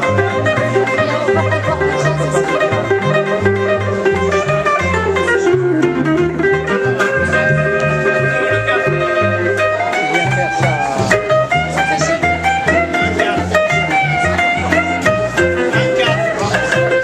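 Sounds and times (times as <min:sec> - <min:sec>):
electric guitar bent notes: 0:00.0 - 0:17.0
live blues band playing: 0:00.0 - 0:17.0.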